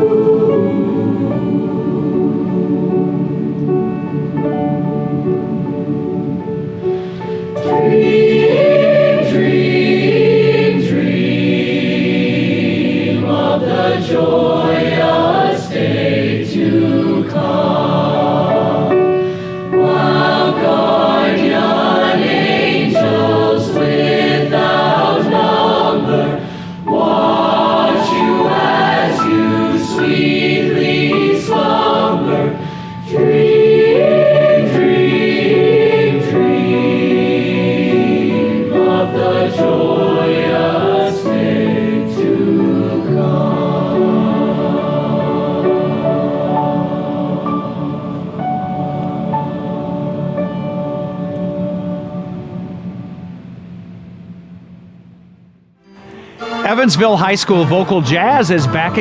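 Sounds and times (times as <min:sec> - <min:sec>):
choir singing: 0:00.0 - 0:52.7, 0:55.9 - 0:59.0.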